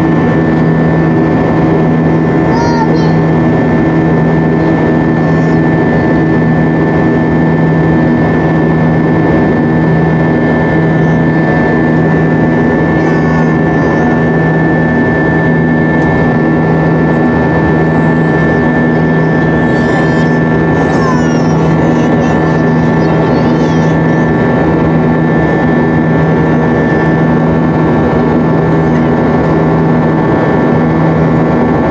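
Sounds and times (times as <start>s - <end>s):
aircraft cabin engine drone: 0.0s - 31.9s.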